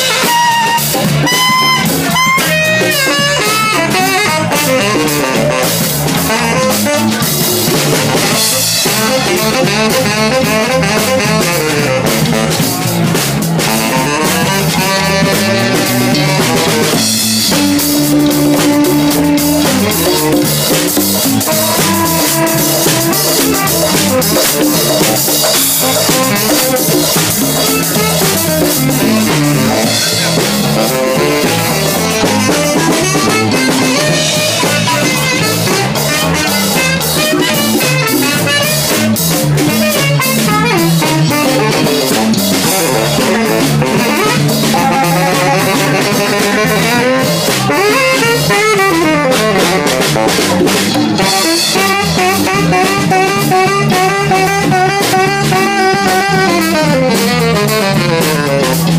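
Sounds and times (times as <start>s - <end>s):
drum kit beat: 0.0s - 58.9s
guitar: 0.0s - 58.9s
saxophone with sliding notes: 0.0s - 58.9s.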